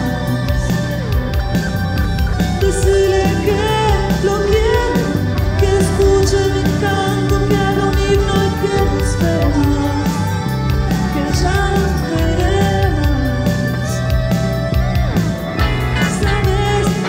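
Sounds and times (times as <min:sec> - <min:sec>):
woman singing: 0:00.0 - 0:01.3, 0:02.4 - 0:14.4, 0:15.6 - 0:17.0
band with guitar keyboards and bass: 0:00.0 - 0:17.0.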